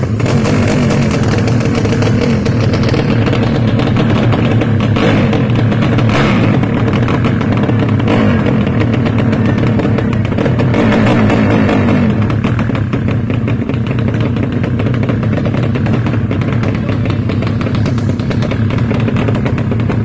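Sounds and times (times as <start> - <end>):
racing motorcycle engine crackling: 0.0 - 20.0.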